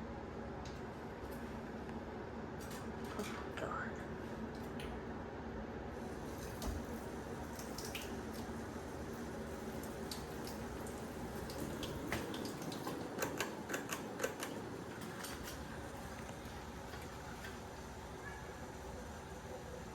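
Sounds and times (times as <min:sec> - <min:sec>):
ceiling fan whirring: 0:00.0 - 0:19.9.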